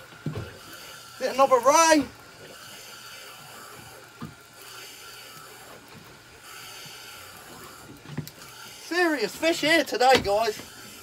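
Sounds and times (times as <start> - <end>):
wind and sea hiss: 0.0 - 11.0.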